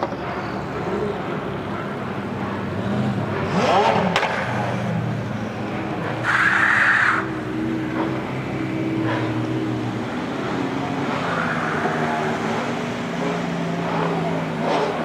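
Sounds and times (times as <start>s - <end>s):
sports car engine revving: 0.8s - 15.0s.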